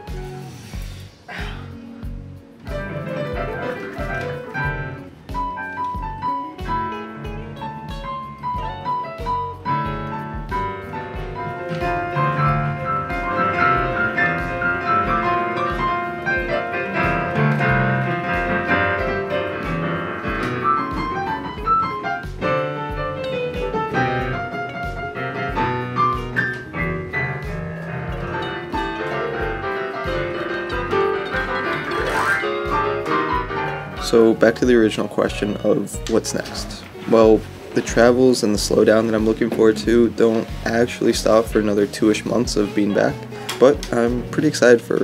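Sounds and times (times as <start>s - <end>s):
digital piano chords and melody: 0.0s - 0.7s, 1.6s - 45.0s.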